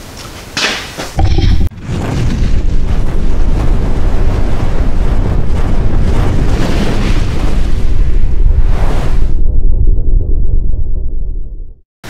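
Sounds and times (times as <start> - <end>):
deep rumbling whoosh: 1.2 - 11.8.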